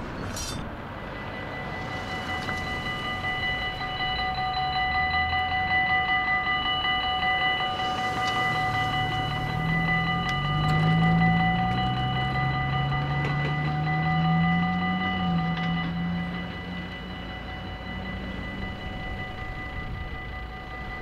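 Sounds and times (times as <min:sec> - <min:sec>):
car engines running: 0:00.0 - 0:21.0
level crossing bell ringing: 0:00.0 - 0:21.0.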